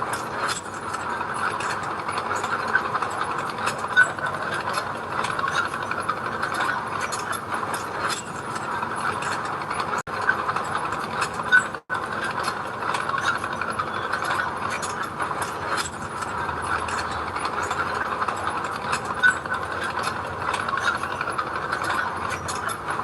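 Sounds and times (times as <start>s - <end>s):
bulldozer engine running: 0.0s - 23.0s
metallic clicking and rattling: 0.0s - 23.0s.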